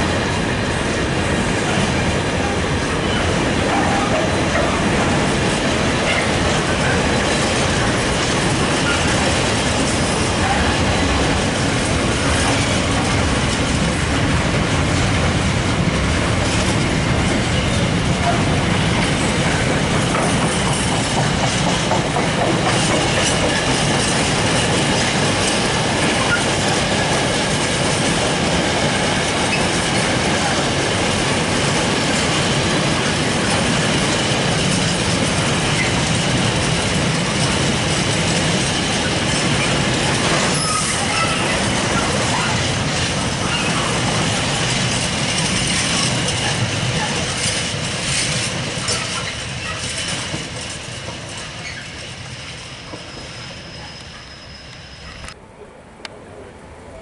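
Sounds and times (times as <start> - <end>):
freight train wheels clattering: 0.0 - 55.4.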